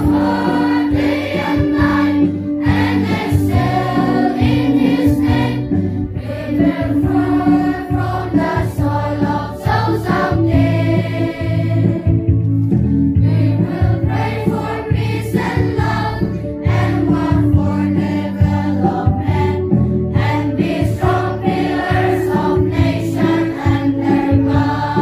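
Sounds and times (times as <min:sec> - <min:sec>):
choir singing: 0:00.0 - 0:12.2, 0:13.2 - 0:19.6, 0:20.2 - 0:25.0
musical accompaniment: 0:00.0 - 0:25.0.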